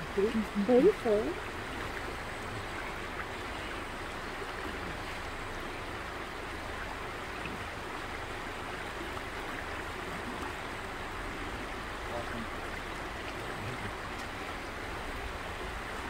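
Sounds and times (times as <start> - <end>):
river rippling over rocks: 0.0 - 16.0.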